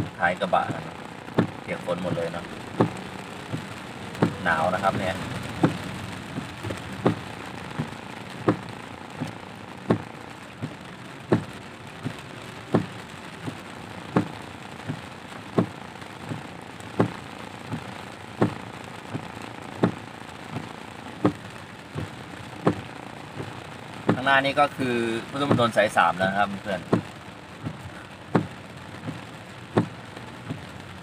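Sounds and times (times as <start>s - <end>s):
heavy rain on car: 0.0s - 31.0s
windscreen wipers knocking: 0.0s - 31.0s.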